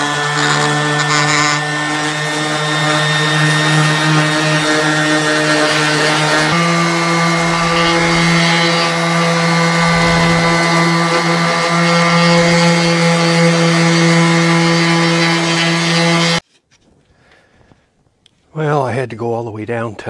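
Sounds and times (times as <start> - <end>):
electric sheet sander running: 0.0 - 16.4.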